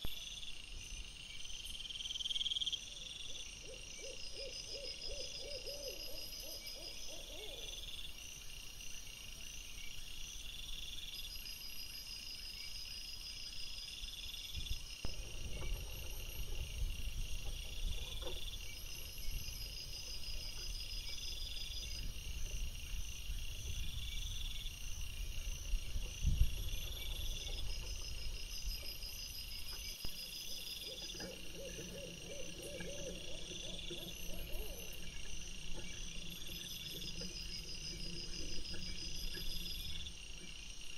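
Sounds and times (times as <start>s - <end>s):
night insects chirping: 0.0s - 40.9s.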